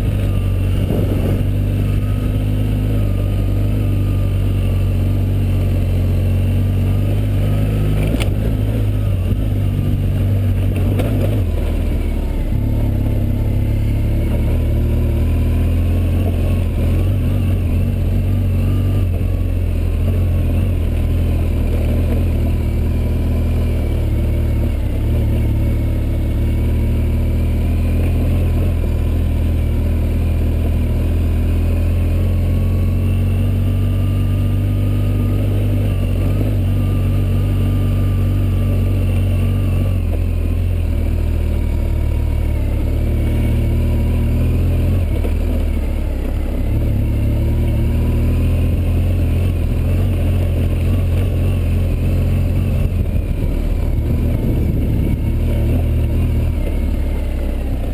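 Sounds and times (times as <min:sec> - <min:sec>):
off-road vehicle engine rumble: 0:00.0 - 0:57.9
wavering engine whine: 0:00.0 - 0:57.9.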